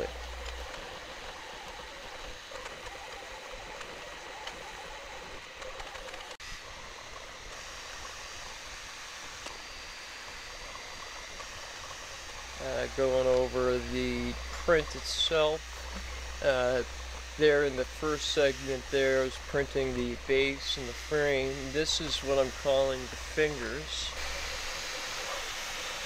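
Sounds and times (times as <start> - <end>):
high motor whine: 0.0 - 26.0
printer fan hiss: 0.0 - 26.0.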